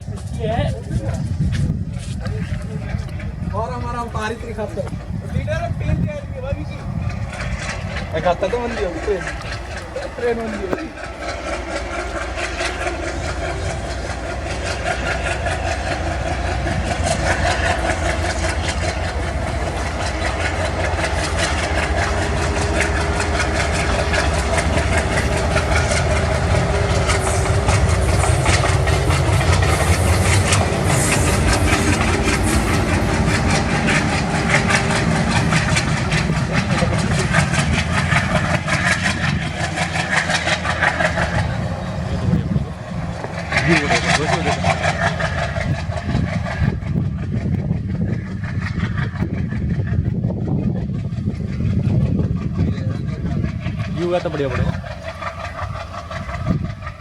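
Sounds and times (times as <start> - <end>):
rail clatter: 0.0 - 57.0
train engine hum: 0.0 - 57.0.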